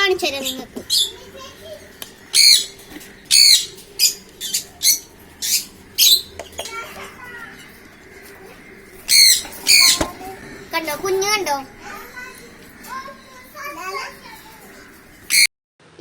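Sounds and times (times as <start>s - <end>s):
lovebirds chirping: 0.2s - 6.8s, 8.0s - 15.5s.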